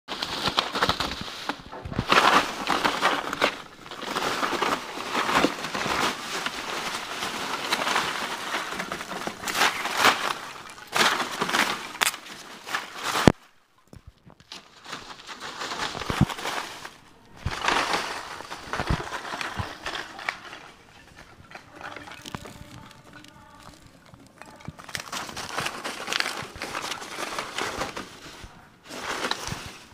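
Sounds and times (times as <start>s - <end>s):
foam packing peanuts rustling: 0.1s - 29.9s.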